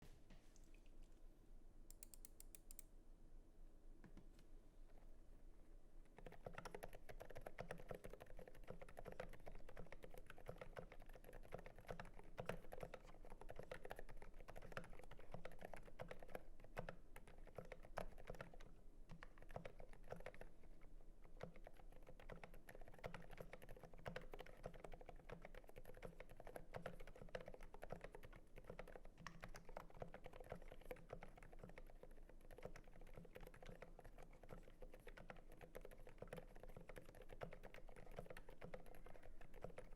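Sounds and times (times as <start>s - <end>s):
soft mechanical keyboard typing: 1.9s - 2.9s, 6.0s - 39.9s.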